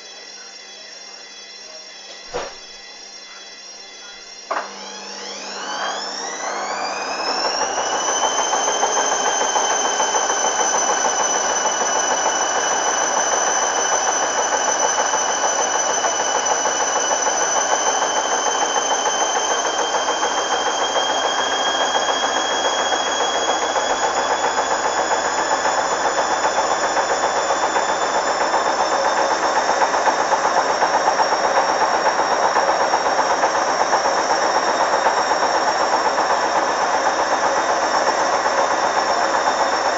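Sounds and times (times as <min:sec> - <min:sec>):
washing machine motor whine: 0:00.0 - 0:39.9
washing machine drum rushing: 0:04.5 - 0:39.9.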